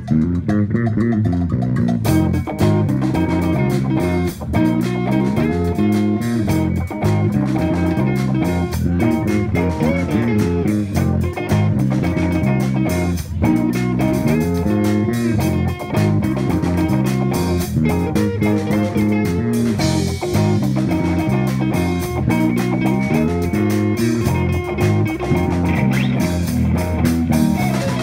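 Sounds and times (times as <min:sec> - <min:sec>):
drum kit: 0:00.0 - 0:28.0
electric bass: 0:00.0 - 0:28.0
electric guitars: 0:00.0 - 0:28.0.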